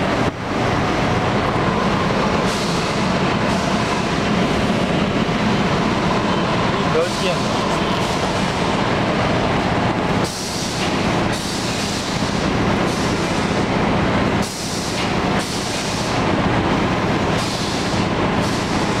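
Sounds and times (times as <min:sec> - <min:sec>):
broad rushing noise: 0:00.0 - 0:19.0.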